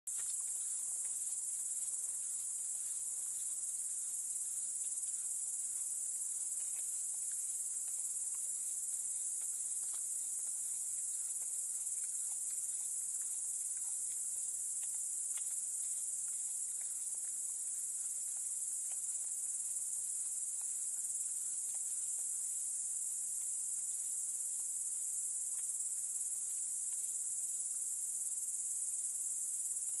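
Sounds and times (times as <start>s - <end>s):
night insects chorus: 0.1s - 30.0s.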